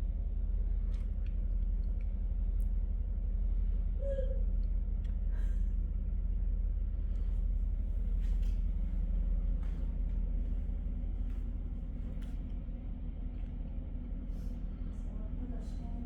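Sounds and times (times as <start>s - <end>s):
large engine rumbling: 0.0s - 16.0s.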